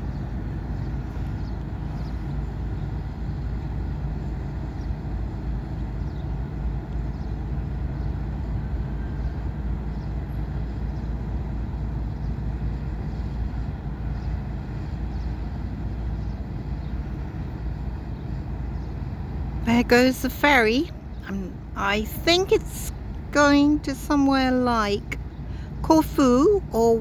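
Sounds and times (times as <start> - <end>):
ferry engines rumbling: 0.0 - 27.0.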